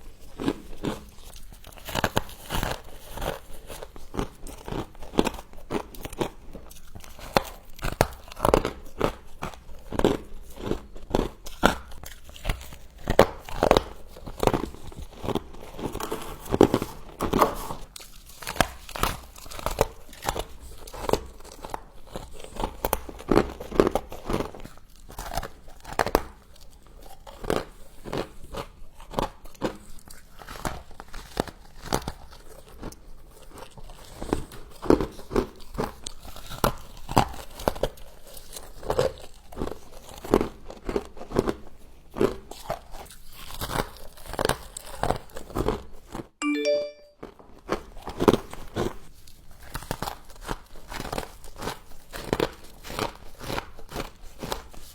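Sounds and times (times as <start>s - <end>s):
crunching frost while chewing: 0.0s - 46.3s, 48.2s - 54.9s.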